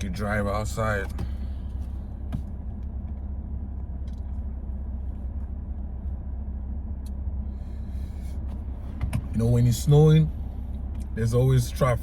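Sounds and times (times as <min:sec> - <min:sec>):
car engine rumble inside cabin: 0:00.0 - 0:12.0
road noise: 0:00.0 - 0:12.0.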